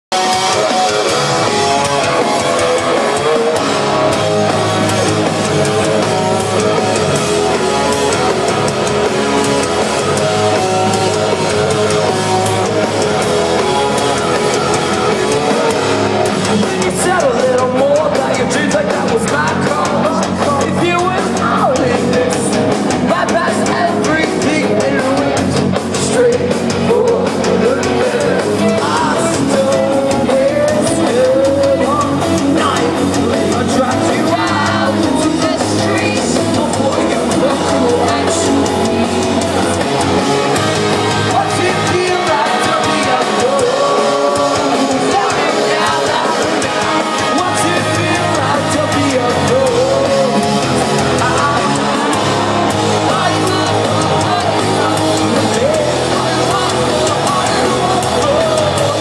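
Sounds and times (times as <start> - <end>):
drum kit: 0.1 - 59.0
electric guitars: 0.1 - 59.0
person singing: 0.1 - 59.0.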